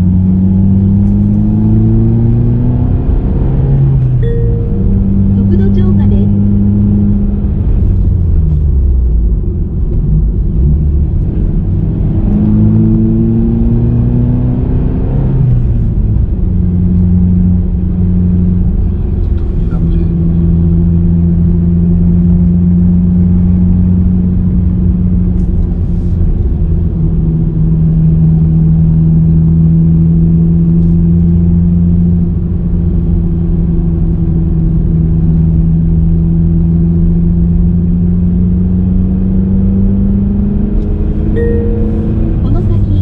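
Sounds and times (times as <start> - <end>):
car engine droning: 0.0 - 43.0
road rumble: 0.0 - 43.0.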